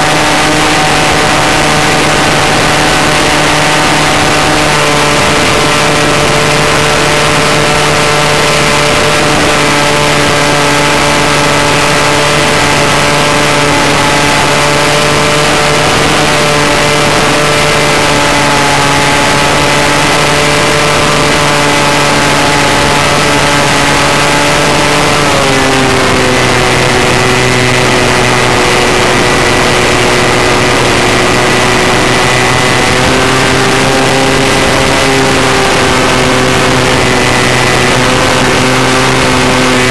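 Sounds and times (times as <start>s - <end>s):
model airplane engine running: 0.0s - 39.9s
wind and propeller hiss: 0.0s - 39.9s.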